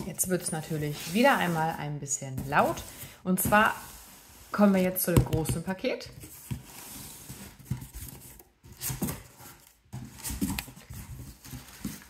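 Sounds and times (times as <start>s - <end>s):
cardboard box scraping and rustling: 0.0s - 5.0s, 6.2s - 12.0s.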